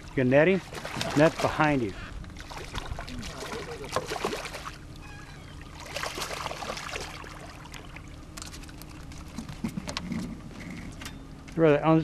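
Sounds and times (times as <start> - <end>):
water splashing: 0.0 - 10.2
fish flopping on boat deck: 0.5 - 11.1.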